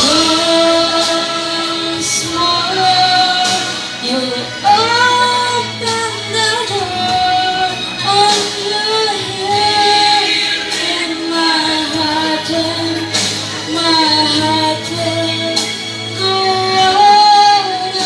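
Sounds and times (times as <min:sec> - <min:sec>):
woman singing slow song: 0:00.0 - 0:18.0.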